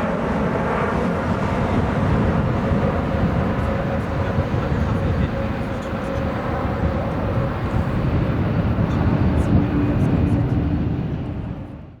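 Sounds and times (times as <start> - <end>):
steady humming tone: 0.0 - 11.8
jet engines rumbling: 0.0 - 12.0.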